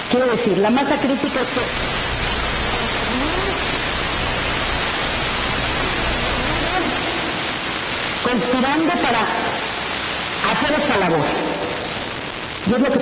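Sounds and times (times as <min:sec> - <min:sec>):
loud static hiss: 0:00.0 - 0:13.0.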